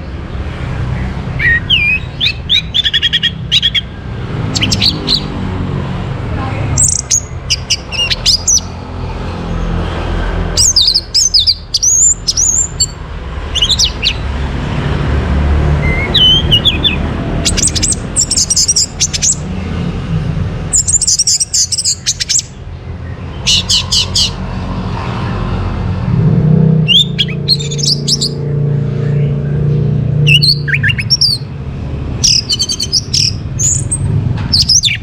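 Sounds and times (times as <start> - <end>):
thrush singing: 0.0 - 25.8, 26.8 - 29.4, 30.2 - 35.0.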